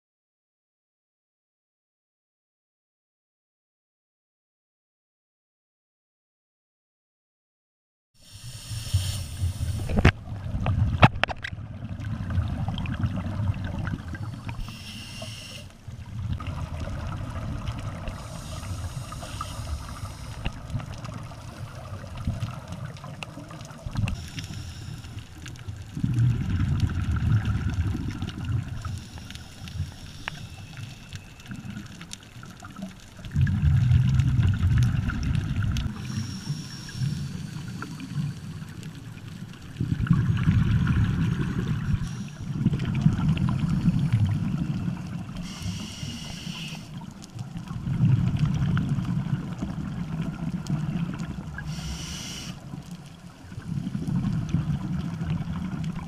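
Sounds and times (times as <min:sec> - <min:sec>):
underwater exhaust bubbling: 0:08.2 - 0:56.0.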